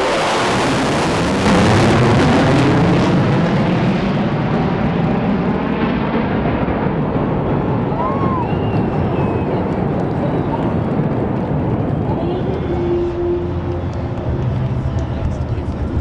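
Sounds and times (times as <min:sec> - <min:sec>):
jet fighter engine roar: 0:00.0 - 0:16.0.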